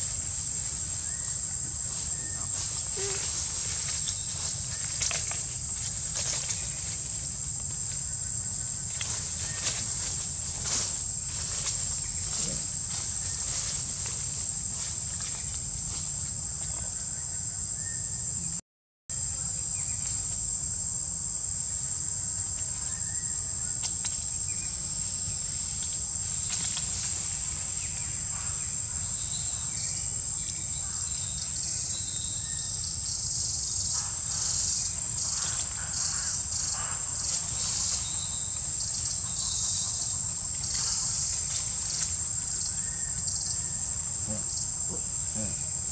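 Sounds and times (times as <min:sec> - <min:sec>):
insect buzz: 0:00.0 - 0:45.9
insect chorus drone: 0:00.0 - 0:45.9.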